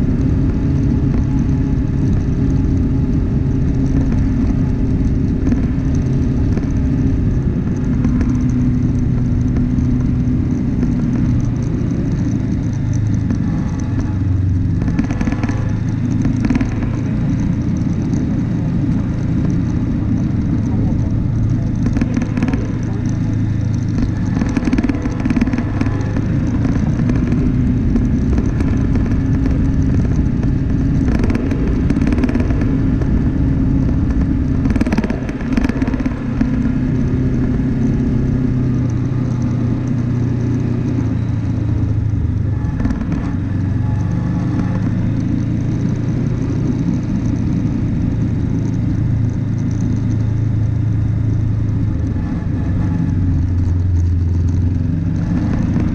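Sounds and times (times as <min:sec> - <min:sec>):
off-road vehicle engine running: 0:00.0 - 0:55.9.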